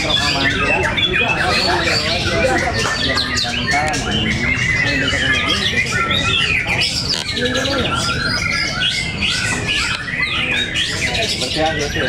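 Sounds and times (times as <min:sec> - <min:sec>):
chorus of songbirds whistling: 0:00.0 - 0:12.0.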